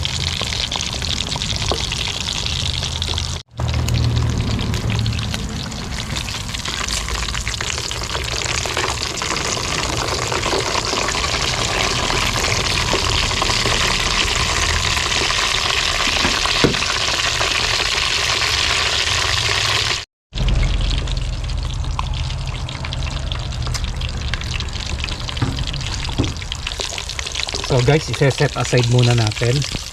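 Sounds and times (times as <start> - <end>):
oil sizzling and crackling: 0.0 - 29.9.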